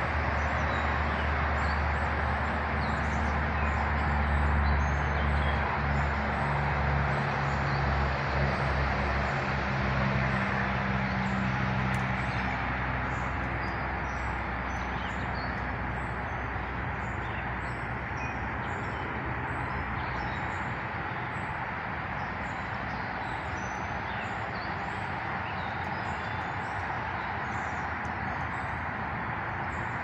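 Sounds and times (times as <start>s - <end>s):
low engine hum: 0.0s - 30.0s
outdoor background noise: 0.0s - 30.0s.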